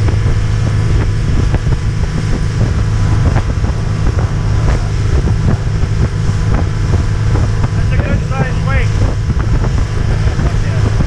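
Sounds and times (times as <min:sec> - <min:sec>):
boat motor drone: 0:00.0 - 0:11.0
water slapping against hull: 0:00.0 - 0:11.0
wind buffeting microphone: 0:00.0 - 0:11.0.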